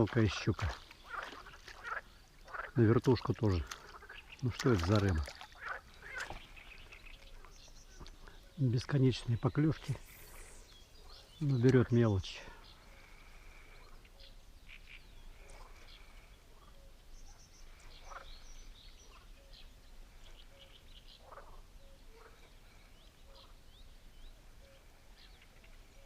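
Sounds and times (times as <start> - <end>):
birds chirping: 0.0 - 26.0
frogs croaking: 0.2 - 9.6, 11.0 - 19.6, 20.2 - 23.6.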